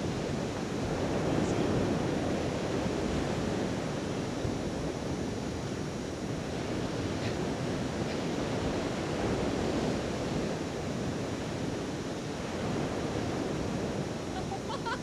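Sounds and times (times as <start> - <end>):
sea surf breaking on beach: 0.0 - 15.0
wind buffeting the microphone: 0.0 - 15.0.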